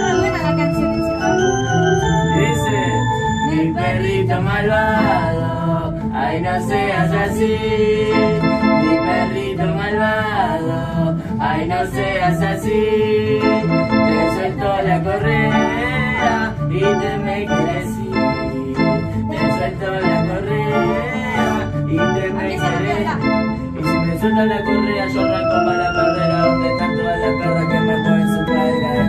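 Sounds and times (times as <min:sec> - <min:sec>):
electronic keyboard organ chords: 0:00.0 - 0:29.0.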